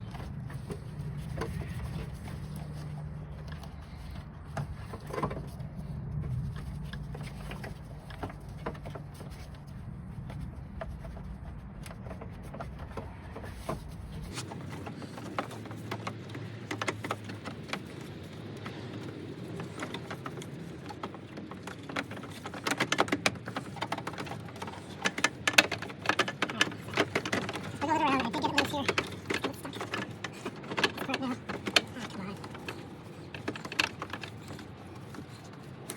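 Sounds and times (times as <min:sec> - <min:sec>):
handling clicks and knocks: 0:00.0 - 0:35.9.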